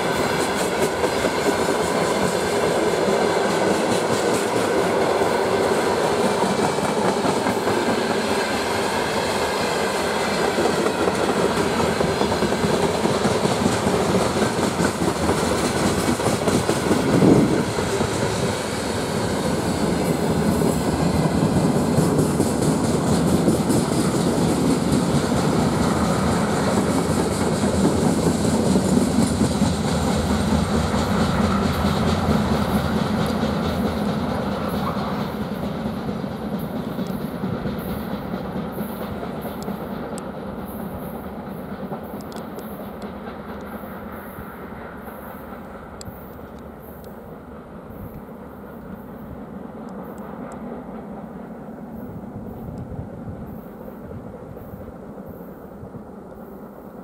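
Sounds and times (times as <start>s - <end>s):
loud train clank: 0.0s - 52.8s
freight train rumbling past: 0.0s - 57.0s.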